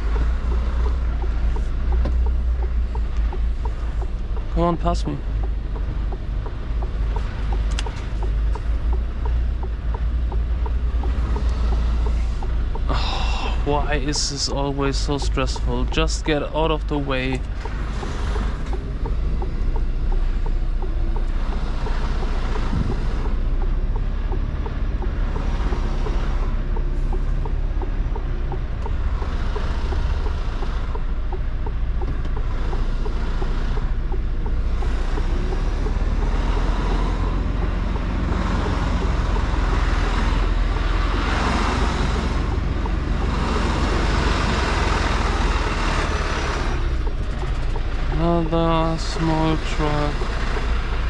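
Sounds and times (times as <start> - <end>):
faint regular ticking: 0.0 - 51.0
truck diesel engine rumble: 0.0 - 51.0.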